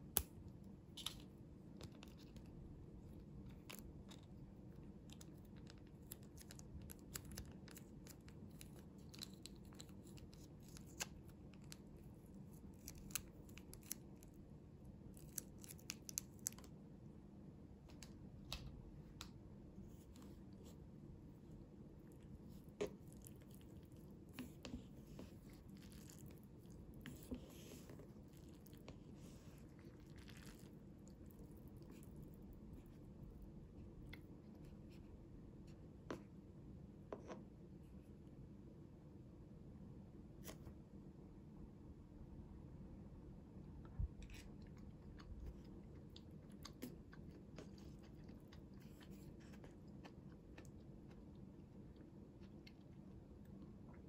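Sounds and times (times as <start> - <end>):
wet squishing of noodles: 0.4 - 16.8, 17.8 - 34.7, 43.8 - 54.0.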